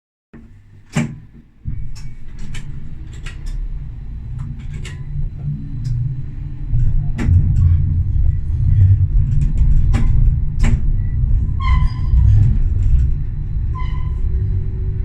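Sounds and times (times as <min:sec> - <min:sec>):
tram rumbling: 0:00.4 - 0:15.0.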